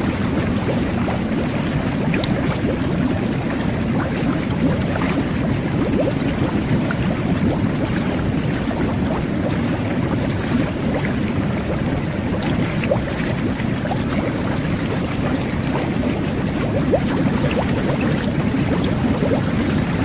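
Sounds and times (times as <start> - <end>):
whirlpool tub jets bubbling: 0.0 - 20.0.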